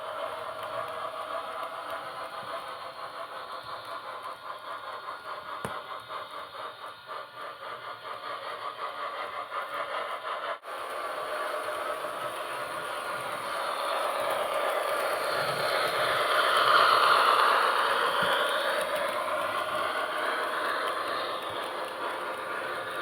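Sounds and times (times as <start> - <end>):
model train motor whir: 0.0 - 23.0
model train wheels clicking: 0.0 - 23.0.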